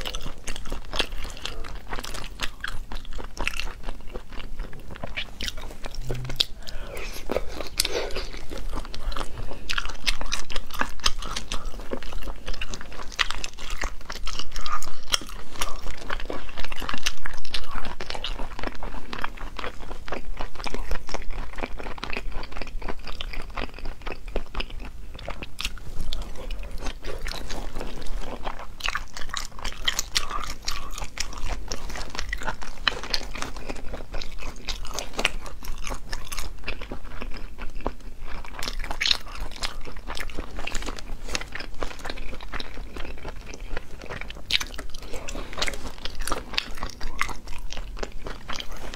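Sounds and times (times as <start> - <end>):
chewing mouth sounds: 0.0 - 48.9.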